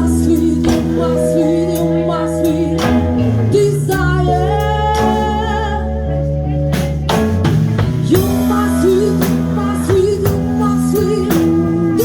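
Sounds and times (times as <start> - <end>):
bass line: 0.0 - 12.0
jazz band playing: 0.0 - 12.0
melody with vibrato: 0.0 - 12.0.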